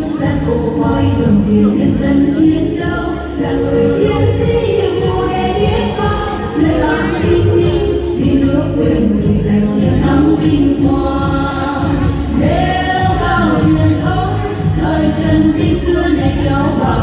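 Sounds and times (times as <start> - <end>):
backing music: 0.0 - 17.0
choir singing: 0.0 - 17.0.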